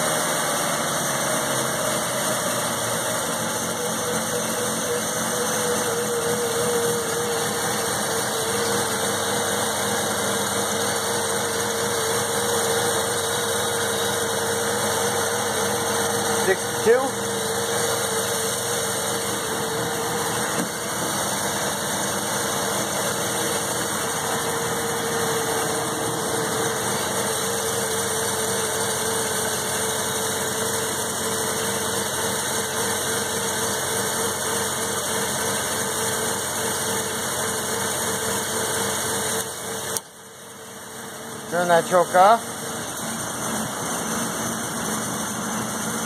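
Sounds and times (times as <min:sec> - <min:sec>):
rotary engine idling: 0:00.0 - 0:46.0.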